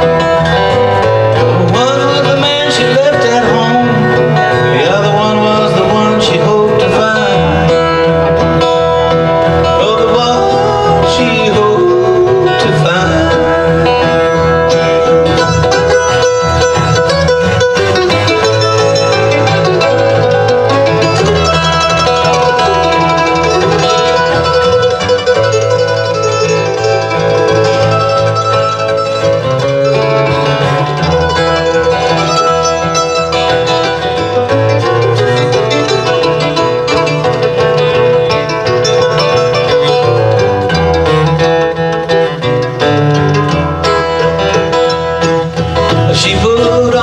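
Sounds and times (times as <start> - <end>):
acoustic guitars picking: 0.0 - 47.0
mandolin picking: 0.0 - 47.0.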